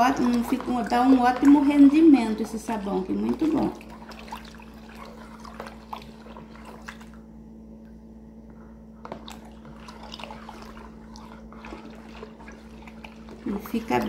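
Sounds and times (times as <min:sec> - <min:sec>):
water sloshing and dripping: 0:00.0 - 0:08.0, 0:08.9 - 0:14.0
faint steady hum: 0:00.0 - 0:14.0.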